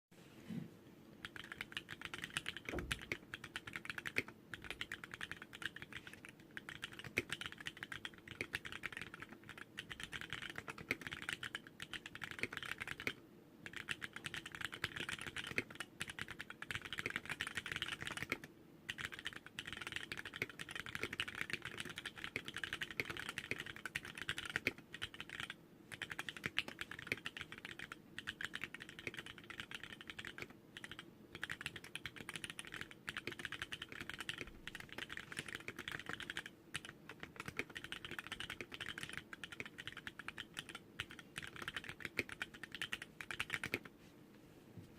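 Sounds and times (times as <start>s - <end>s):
fast mechanical keyboard typing: 1.2s - 43.9s.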